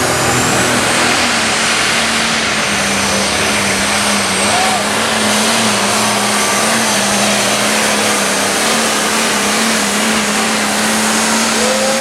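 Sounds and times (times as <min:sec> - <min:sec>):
tractor engine roaring: 0:00.0 - 0:12.0.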